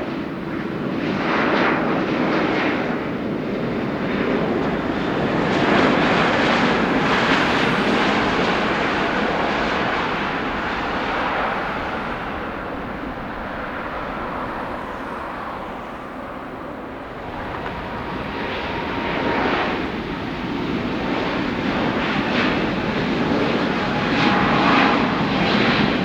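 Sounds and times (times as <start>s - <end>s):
jet engines passing by: 0.0s - 26.0s.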